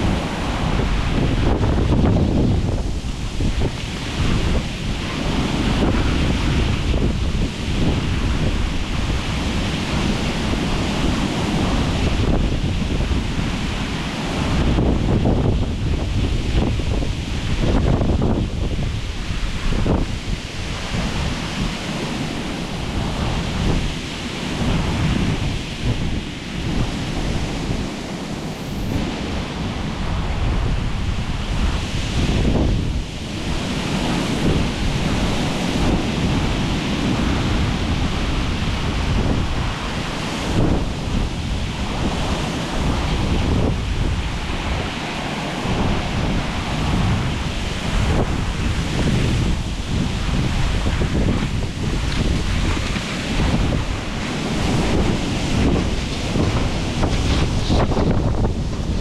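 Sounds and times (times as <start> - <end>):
rushing water: 0.0 - 59.0
wind buffeting microphone: 0.0 - 59.0.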